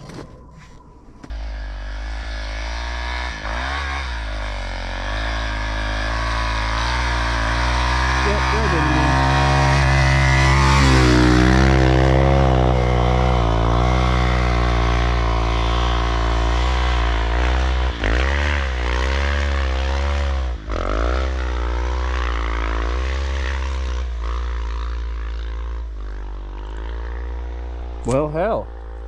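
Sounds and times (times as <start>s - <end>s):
dirt bike engine revving: 1.3s - 29.0s.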